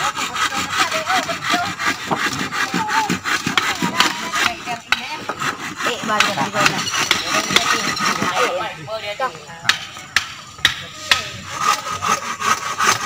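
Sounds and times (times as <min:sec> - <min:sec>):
hand saw cutting wood: 0:00.0 - 0:08.7, 0:09.7 - 0:13.0.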